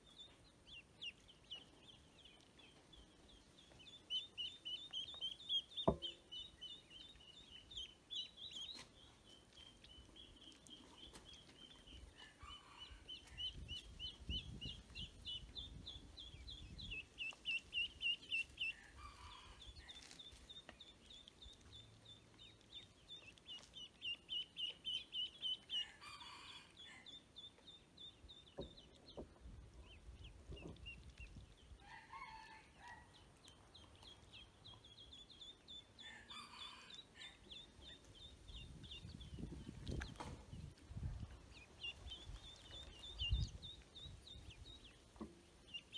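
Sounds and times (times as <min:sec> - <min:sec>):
ducklings peeping: 0:00.0 - 0:45.9.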